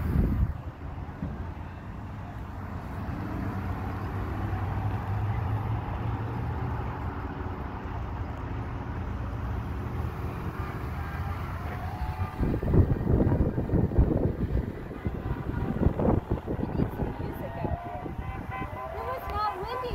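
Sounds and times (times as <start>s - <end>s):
vehicles driving by: 0.0s - 19.9s.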